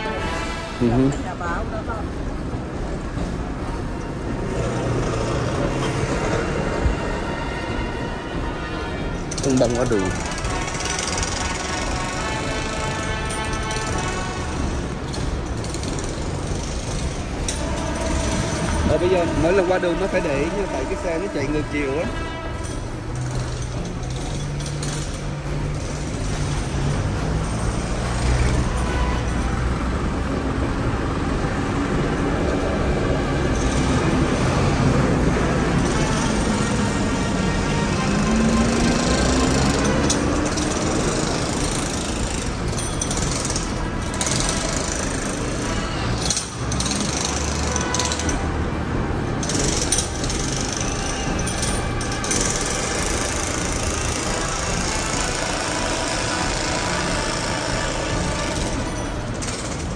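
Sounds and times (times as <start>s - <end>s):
street traffic noise: 0.0s - 59.9s
vehicle engines running: 0.0s - 59.9s.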